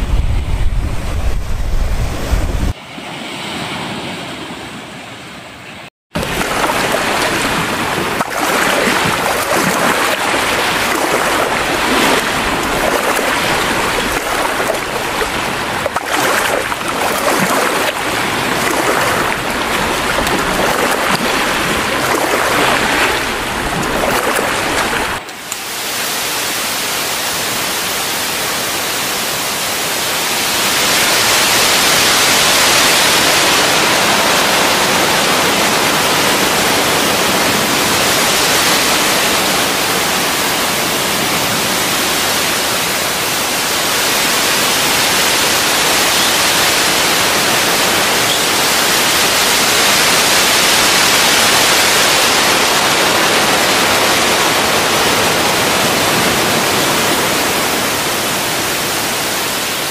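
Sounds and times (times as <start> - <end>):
waves on a pebbly beach: 6.2 - 59.9.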